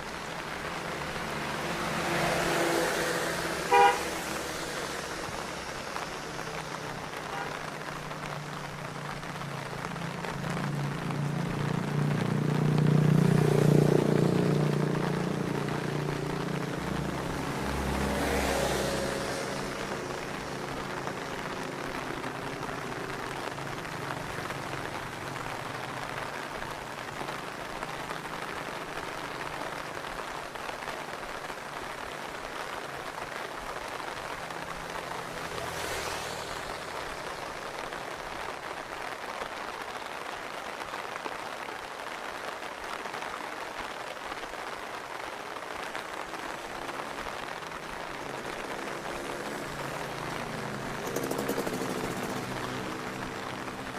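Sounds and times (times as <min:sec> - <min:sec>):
steady rain: 0:00.0 - 0:53.9
vehicle passing on wet road: 0:00.0 - 0:53.9.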